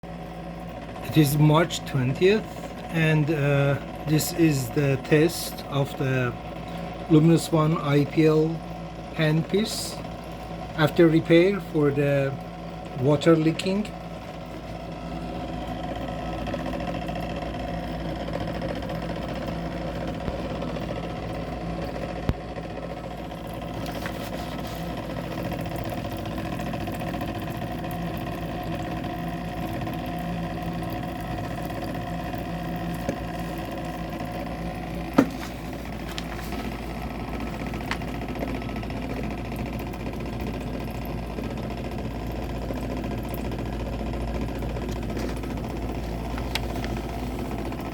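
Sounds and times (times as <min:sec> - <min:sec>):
pump and fan humming: 0:00.0 - 0:47.9.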